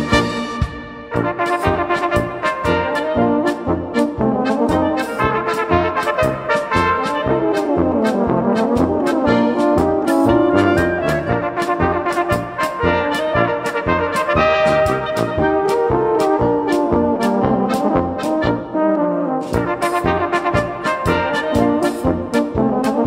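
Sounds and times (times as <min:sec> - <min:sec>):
brass band playing polka: 0:00.0 - 0:23.0.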